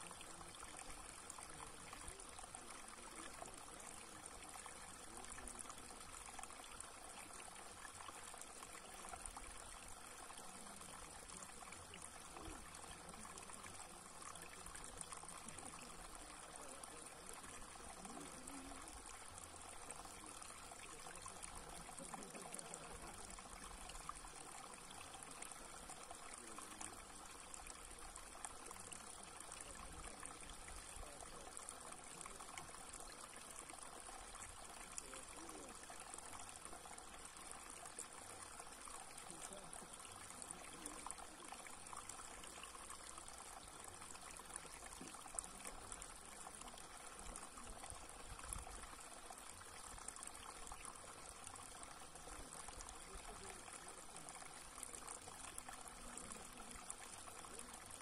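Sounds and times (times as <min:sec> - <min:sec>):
water trickling over rock: 0:00.0 - 0:58.0.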